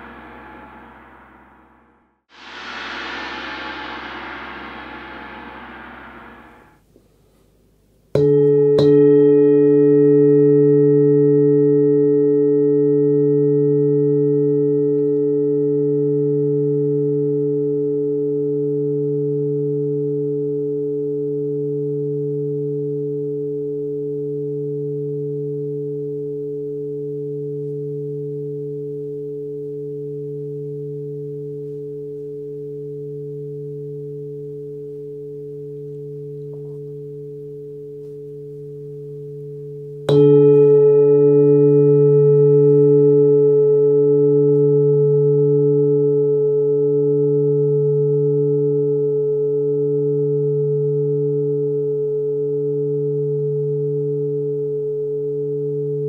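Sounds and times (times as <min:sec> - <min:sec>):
singing bowl strike: 0:00.0 - 0:06.8, 0:08.2 - 0:54.2
singing bowl ringing: 0:08.2 - 0:56.0.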